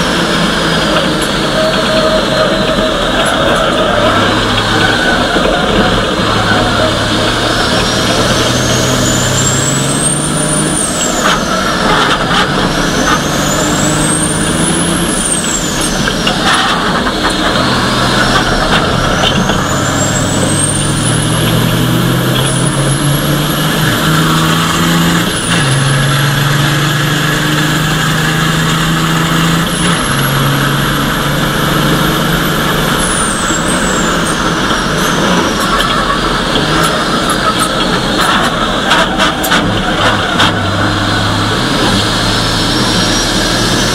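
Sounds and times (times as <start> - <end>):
diesel truck engine racing: 0.0 - 43.9
high whine: 0.0 - 43.9.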